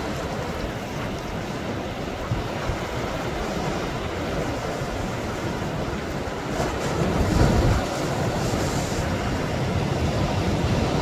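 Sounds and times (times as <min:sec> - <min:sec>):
waves breaking on rocks: 0:00.0 - 0:11.0
wind buffeting microphone: 0:00.0 - 0:11.0.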